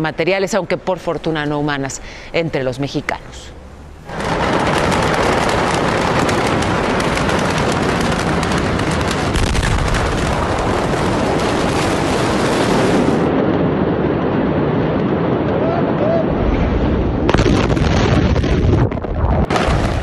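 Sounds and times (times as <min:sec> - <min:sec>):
large fire roaring and crackling: 0:03.3 - 0:20.0.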